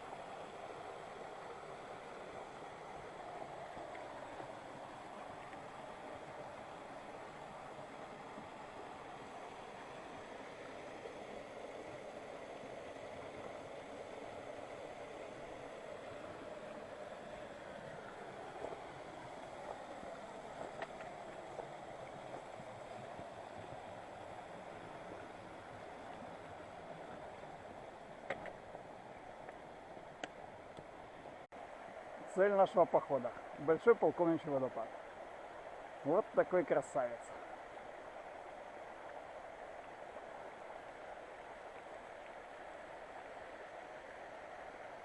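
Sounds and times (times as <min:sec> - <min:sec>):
river running over rocks: 0:00.0 - 0:45.0.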